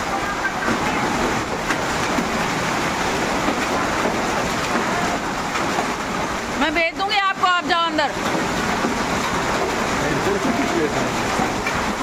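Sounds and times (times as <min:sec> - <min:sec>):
hail and rain pelting: 0:00.2 - 0:12.0.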